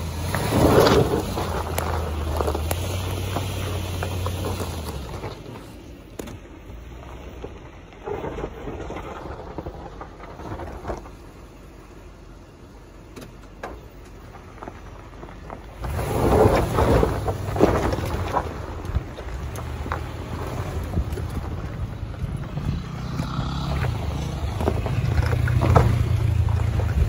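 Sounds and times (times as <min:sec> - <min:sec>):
gravel popping: 0:00.0 - 0:27.0
low engine hum: 0:00.0 - 0:27.0
tyres crunching over gravel: 0:00.0 - 0:27.0.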